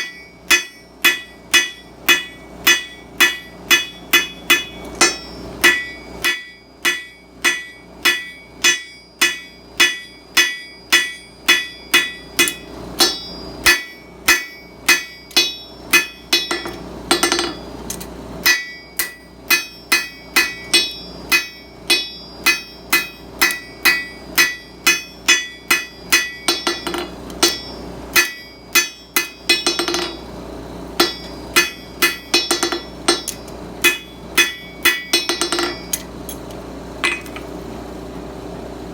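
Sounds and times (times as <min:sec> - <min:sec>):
hammer striking metal on anvil: 0:00.0 - 0:30.3, 0:31.0 - 0:36.1, 0:37.0 - 0:37.4.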